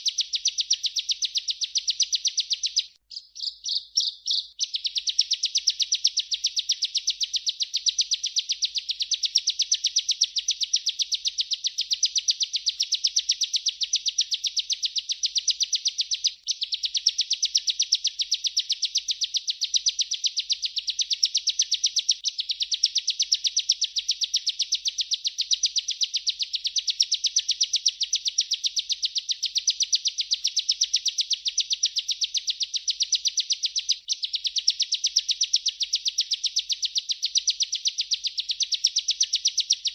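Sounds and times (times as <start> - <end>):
bird singing rolling chirping song: 0.0 - 39.9.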